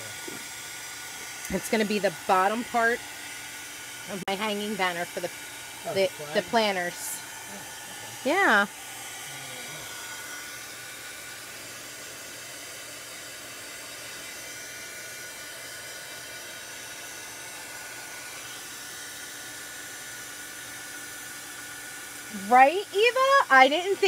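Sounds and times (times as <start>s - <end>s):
handheld dryer running: 0.0s - 24.0s.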